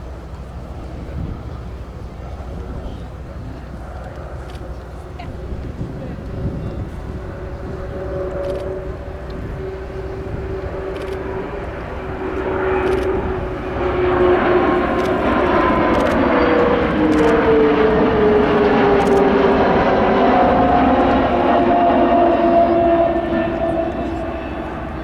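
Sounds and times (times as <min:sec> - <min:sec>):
jet aircraft flypast: 0:00.0 - 0:25.0.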